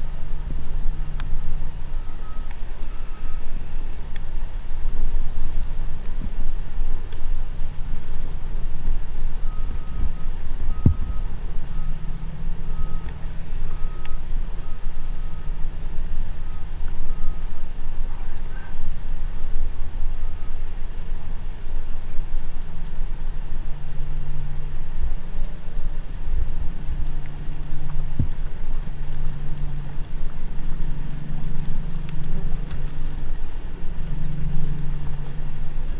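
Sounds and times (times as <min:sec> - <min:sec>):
insect chirping: 0:00.0 - 0:35.9
low rumble: 0:00.0 - 0:35.9
lower insect chirping: 0:00.0 - 0:35.9.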